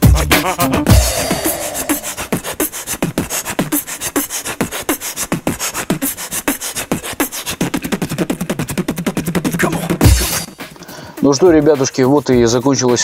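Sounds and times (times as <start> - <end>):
hip-hop beat: 0.0 - 13.0.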